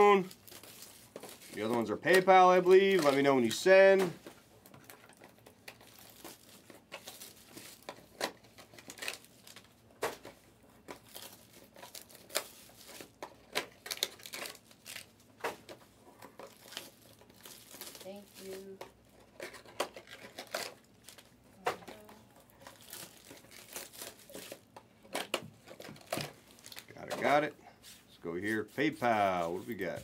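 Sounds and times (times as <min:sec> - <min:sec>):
foil wrappers crinkling: 0:00.0 - 0:30.0.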